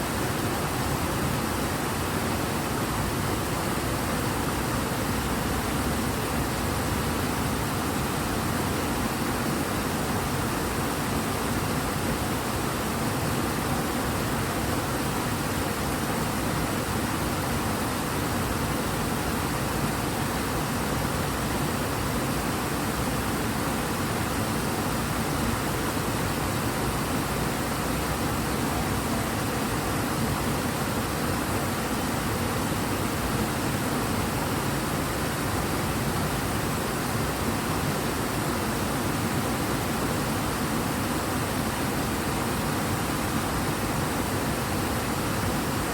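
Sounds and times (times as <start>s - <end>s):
rushing river water: 0.0s - 45.9s.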